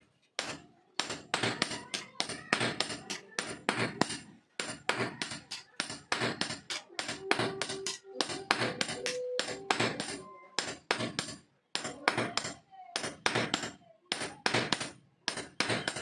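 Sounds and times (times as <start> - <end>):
hammer striking metal on anvil: 0.4 - 16.0.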